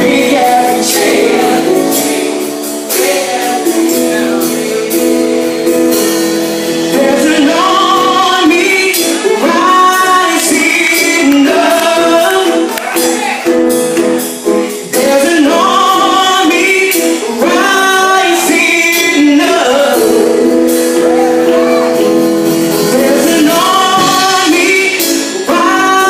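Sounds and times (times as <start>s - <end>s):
women singing gospel song: 0.0s - 5.6s, 7.0s - 13.0s, 14.9s - 21.8s, 22.9s - 26.0s
held accompaniment chords: 0.0s - 26.0s.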